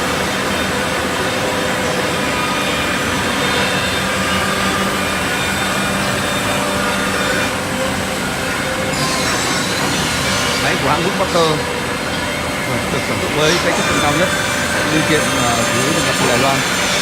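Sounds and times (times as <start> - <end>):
jigsaw machine running: 0.0 - 17.0.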